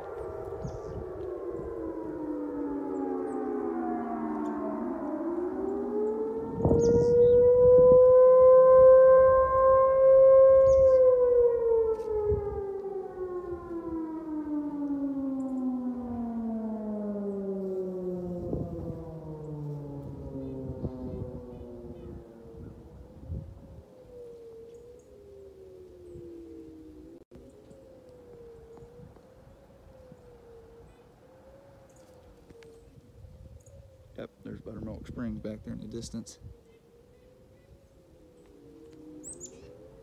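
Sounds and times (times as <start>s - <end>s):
warning sirens wailing: 0.0s - 40.0s.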